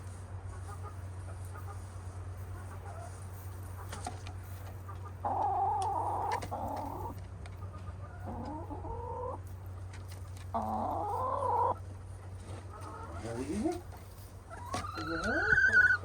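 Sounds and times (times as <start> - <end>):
hens calling: 0.4 - 16.0.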